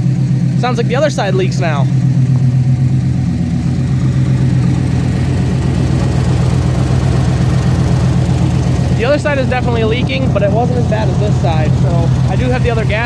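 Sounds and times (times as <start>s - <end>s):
exhaust leak pulsing: 0.0s - 13.0s
pickup engine idling: 0.0s - 13.0s.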